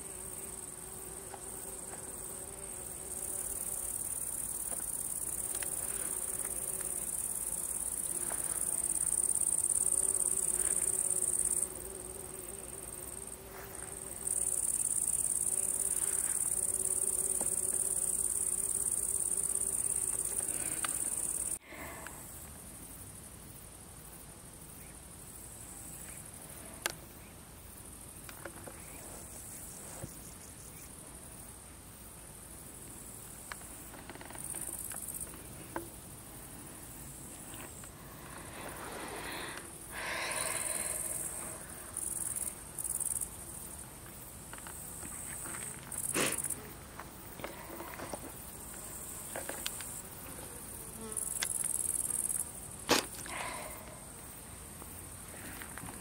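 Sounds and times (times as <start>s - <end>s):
insects buzzing trill: 0.0s - 56.0s.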